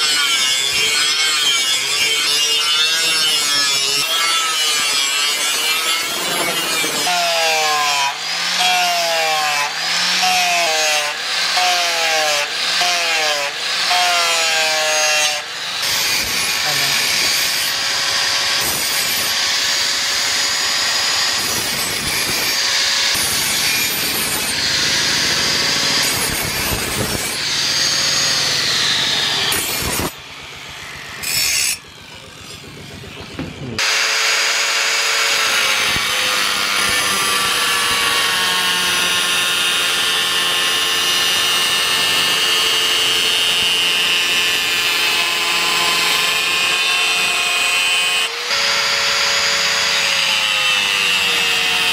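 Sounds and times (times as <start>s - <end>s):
angle grinder grinding steel: 0.0s - 51.9s.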